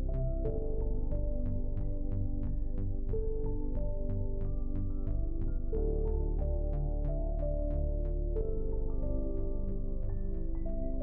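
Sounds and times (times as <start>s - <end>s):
synthesizer background music: 0.0s - 11.0s.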